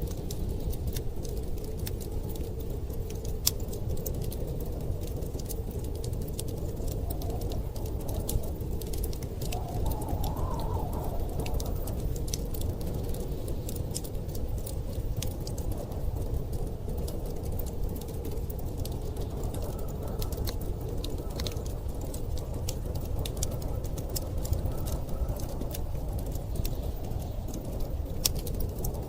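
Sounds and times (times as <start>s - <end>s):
blizzard wind rushing: 0.0s - 29.0s
wood fire crackling: 0.0s - 29.0s.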